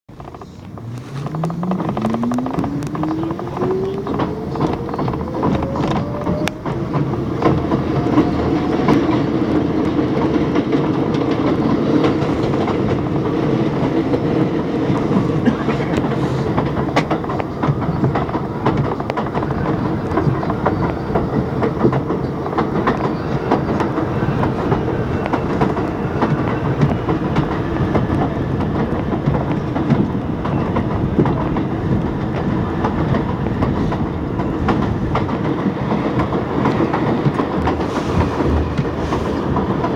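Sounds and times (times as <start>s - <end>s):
steel wheels rumbling on rail: 0.1s - 39.9s
wheels clicking over rail joints: 0.1s - 39.9s.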